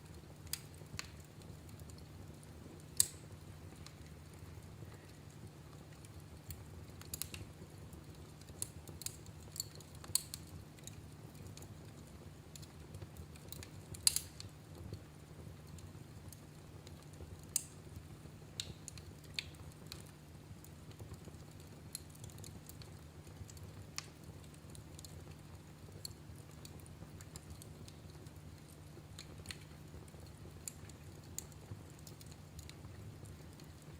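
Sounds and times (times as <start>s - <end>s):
fire popping: 0.0s - 33.9s
low fire rumble: 0.0s - 33.9s
wood fire crackling: 0.0s - 33.9s.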